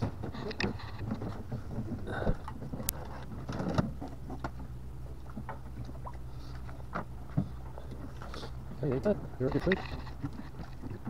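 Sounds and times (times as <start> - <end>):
steady low hum: 0.0 - 11.0
wooden oars knocking in rowlocks: 0.0 - 11.0.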